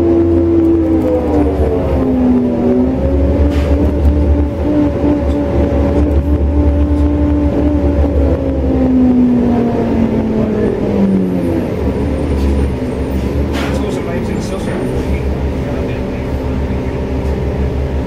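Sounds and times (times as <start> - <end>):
bus engine rumble: 0.0 - 18.0
drivetrain whine: 0.0 - 18.0.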